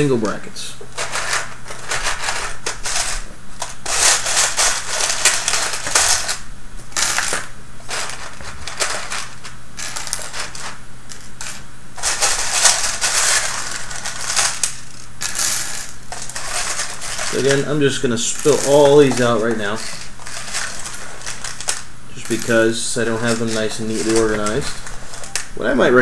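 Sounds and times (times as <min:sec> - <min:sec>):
small plastic parts clattering: 0:00.9 - 0:25.6.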